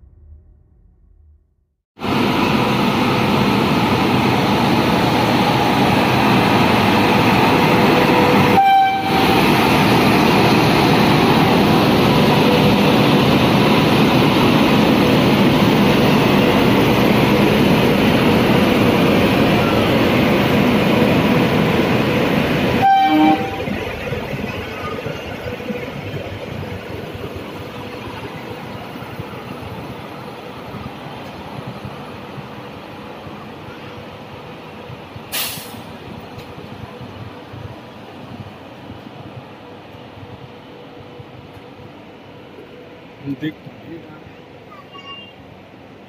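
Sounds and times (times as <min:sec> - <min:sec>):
locomotive hum: 0:02.0 - 0:46.0
train wheel and running noise: 0:02.0 - 0:46.0.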